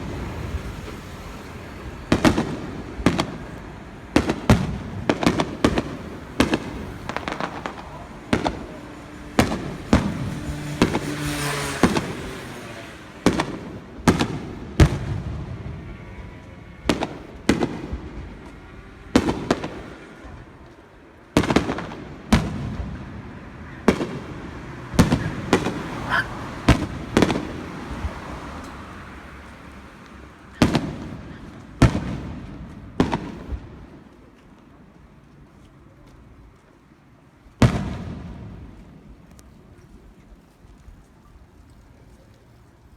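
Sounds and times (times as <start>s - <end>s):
fireworks crackling: 0.0s - 34.8s, 37.6s - 39.7s.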